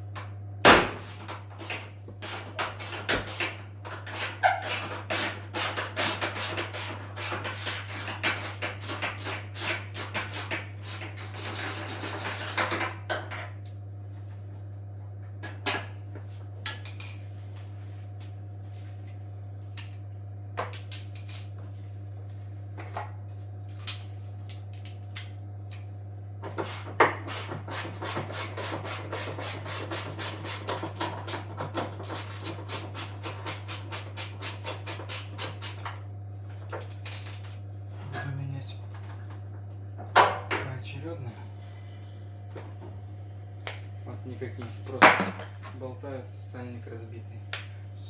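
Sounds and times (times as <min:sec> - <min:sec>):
steady low hum: 0:04.8 - 0:48.0.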